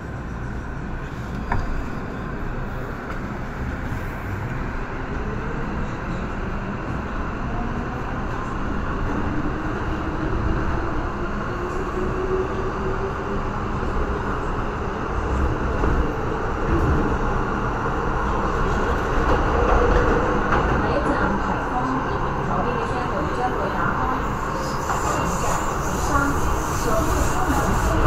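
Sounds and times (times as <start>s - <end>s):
train rumble with motor whine: 0.0s - 28.0s.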